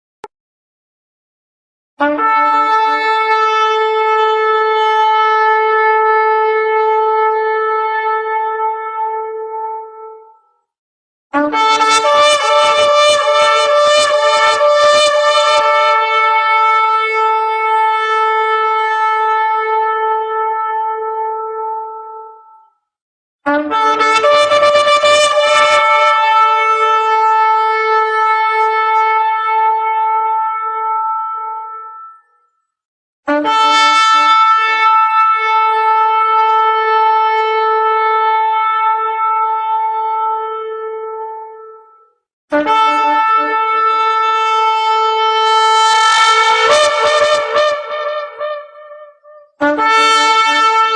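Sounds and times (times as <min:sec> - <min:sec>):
shofar blasts: 0:02.0 - 0:09.1, 0:11.4 - 0:21.9, 0:23.5 - 0:32.3, 0:33.3 - 0:41.8, 0:42.5 - 0:50.9.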